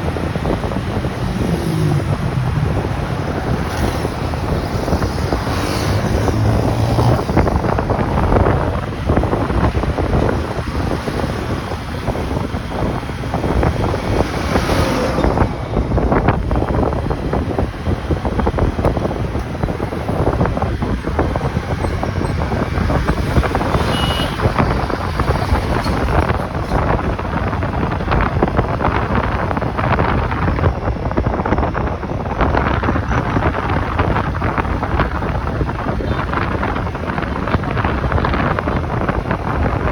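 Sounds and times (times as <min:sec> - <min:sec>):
road noise: 0:00.0 - 0:39.9
wind on microphone: 0:00.0 - 0:39.9.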